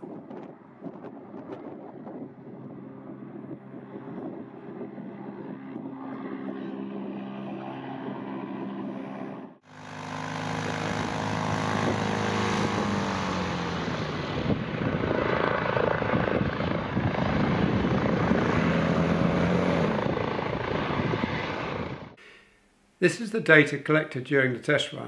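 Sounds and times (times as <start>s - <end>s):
loud propeller drone: 0.0s - 22.2s.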